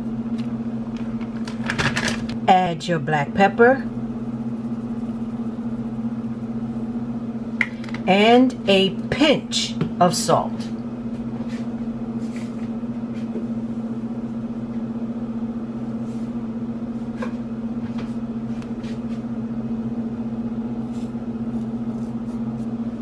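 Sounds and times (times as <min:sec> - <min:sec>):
low electric hum: 0:00.0 - 0:23.0.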